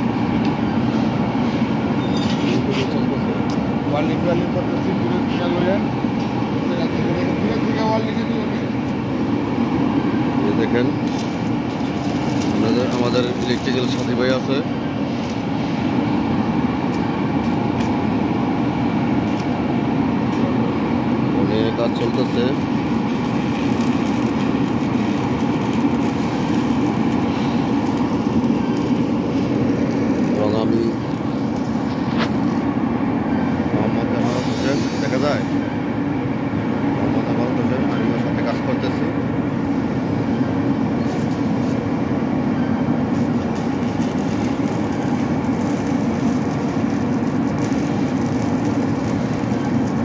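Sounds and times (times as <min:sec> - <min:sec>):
machinery droning: 0:00.0 - 0:37.8, 0:38.8 - 0:50.0.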